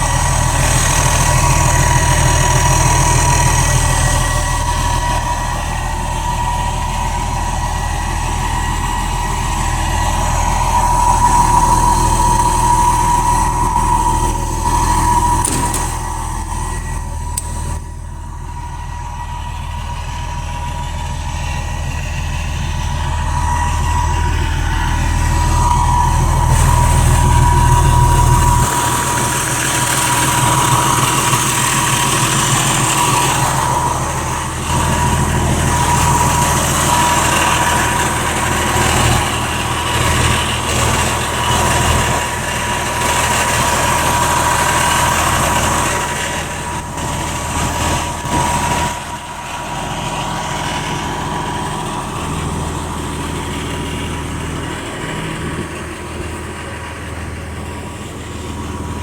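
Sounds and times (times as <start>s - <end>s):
diesel bus engine running: 0.0s - 59.0s
steady high tone: 0.0s - 59.0s.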